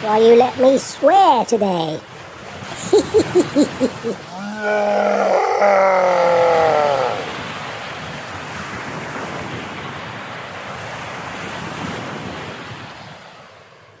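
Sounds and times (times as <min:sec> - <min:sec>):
rushing water: 0:00.0 - 0:13.8
wind: 0:00.0 - 0:14.0.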